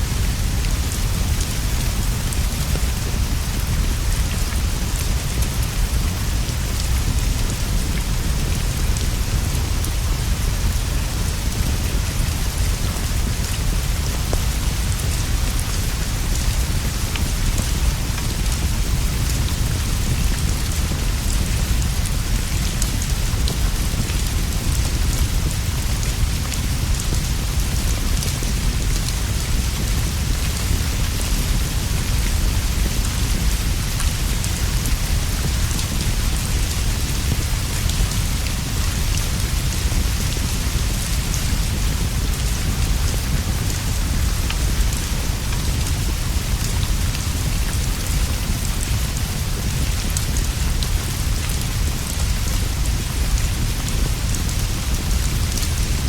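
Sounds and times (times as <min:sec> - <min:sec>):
rain on leaves and roof: 0:00.0 - 0:56.0.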